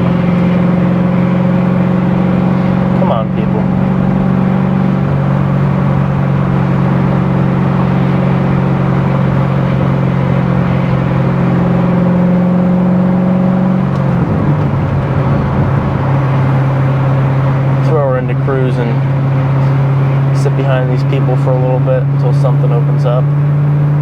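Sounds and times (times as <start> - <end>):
car engine running at cruise: 0.0 - 24.0.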